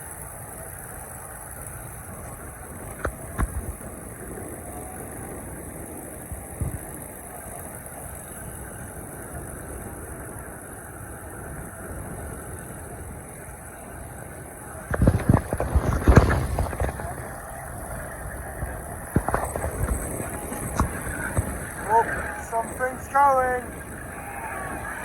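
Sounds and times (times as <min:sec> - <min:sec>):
distant aircraft engines humming: 0:00.0 - 0:25.0.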